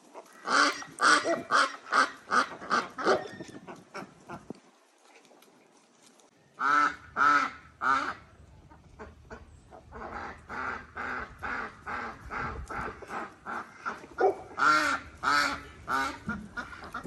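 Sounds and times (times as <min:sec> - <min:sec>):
ducks quacking: 0:00.0 - 0:04.5, 0:06.6 - 0:17.0.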